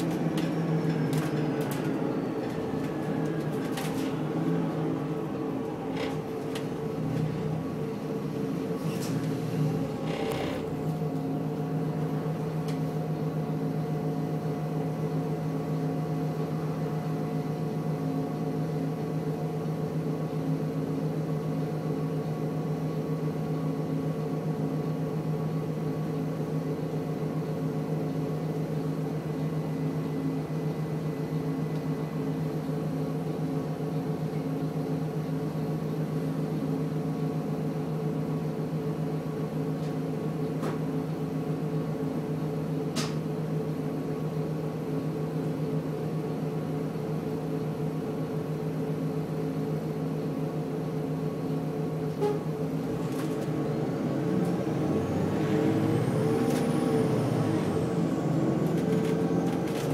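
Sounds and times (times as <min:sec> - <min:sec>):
bus diesel engine idling: 0:00.0 - 0:59.9.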